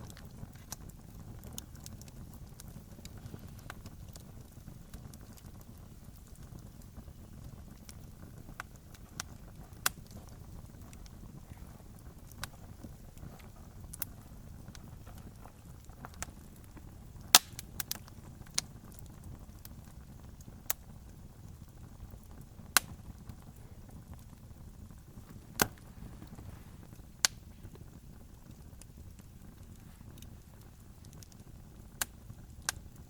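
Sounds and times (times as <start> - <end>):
low steady fire rumble: 0.0 - 33.0
wood crackling and popping in fire: 0.0 - 33.0.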